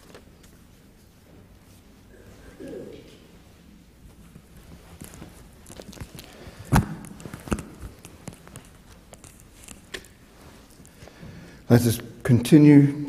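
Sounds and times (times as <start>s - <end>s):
soft rustling: 0.0s - 12.0s.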